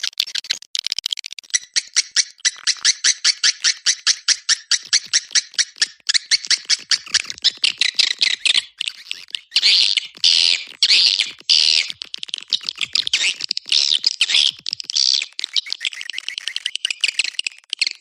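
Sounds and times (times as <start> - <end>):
recorded bird chirps: 1.5 - 18.0
bird twittering: 1.6 - 18.0
raspy bird calls: 1.8 - 18.0.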